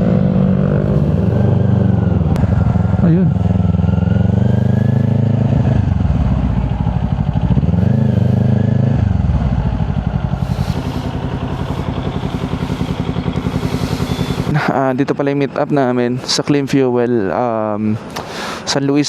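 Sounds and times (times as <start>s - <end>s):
motorcycle engine revving and idling: 0.0s - 17.5s.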